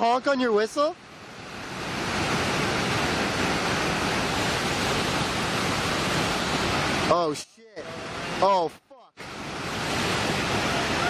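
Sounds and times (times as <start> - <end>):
steady rushing noise: 0.7 - 11.0.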